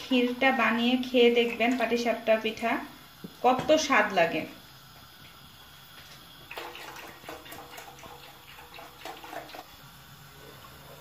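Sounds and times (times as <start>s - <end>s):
milk pouring into a pot: 0.0s - 3.4s, 4.5s - 11.0s.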